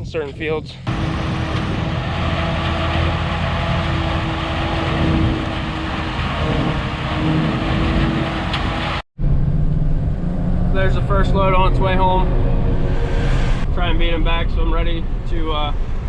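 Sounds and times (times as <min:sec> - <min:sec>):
forage chopper engine hum: 0:00.8 - 0:16.0
high whining tone: 0:00.9 - 0:16.0.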